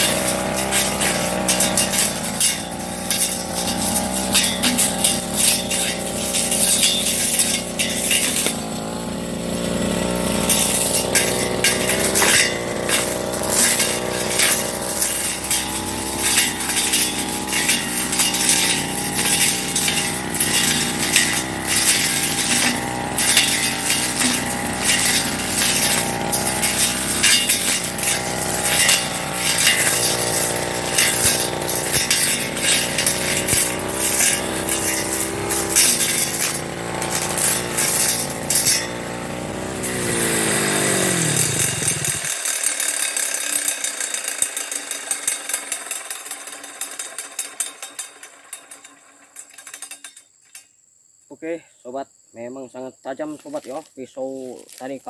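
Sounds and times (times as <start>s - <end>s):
brush cutter engine: 0.0s - 50.2s, 53.1s - 55.0s
blade clicking on stems: 0.0s - 50.6s.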